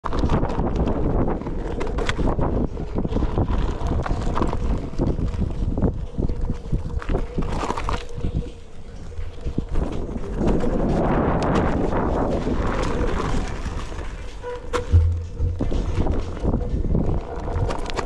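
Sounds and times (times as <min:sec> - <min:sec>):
stones crackling under tyre: 0:00.0 - 0:18.0
wind buffeting microphone: 0:00.0 - 0:18.0.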